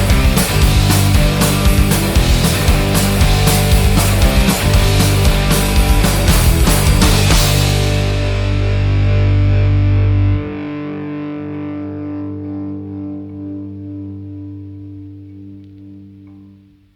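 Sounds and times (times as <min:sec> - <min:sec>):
distorted electric guitar chord: 0:00.0 - 0:16.7
bass: 0:00.0 - 0:16.9.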